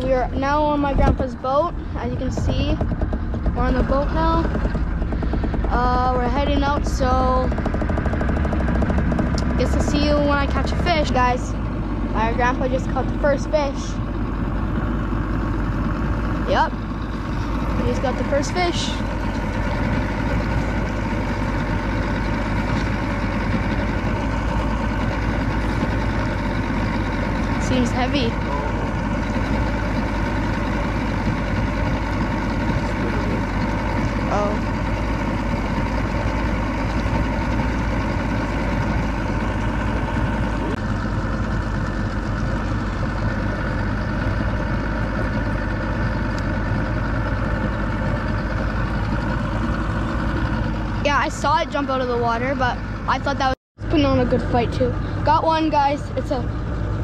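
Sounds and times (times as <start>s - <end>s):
boat engine idling: 0.0s - 57.0s
outboard motor running: 0.0s - 57.0s.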